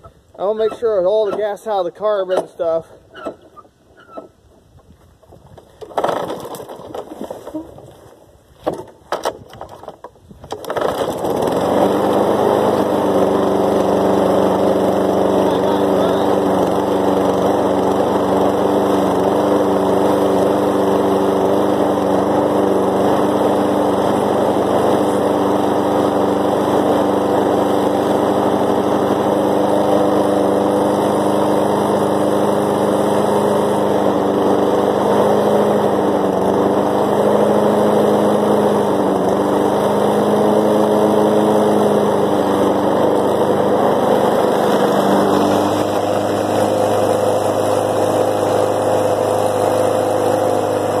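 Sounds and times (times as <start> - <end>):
lawn mower engine running: 5.6 - 7.7, 9.0 - 51.0.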